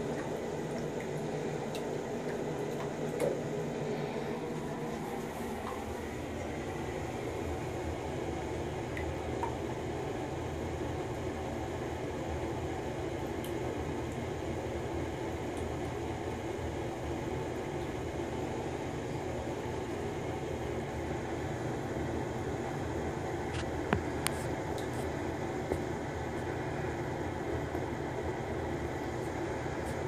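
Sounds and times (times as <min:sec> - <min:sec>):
low hum and hiss: 0:00.0 - 0:30.0.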